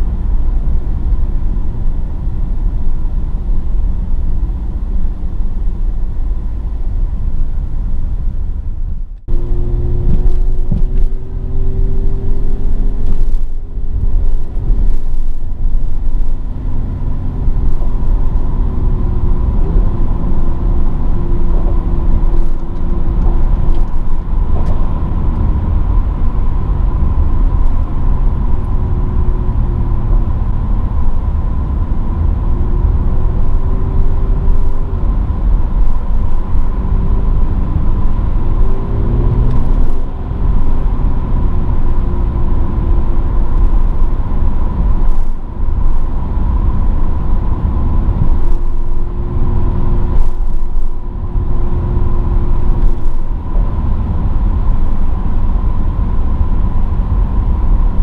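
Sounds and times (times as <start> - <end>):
car engine while driving: 0.0 - 58.0
road noise rumble: 0.0 - 58.0.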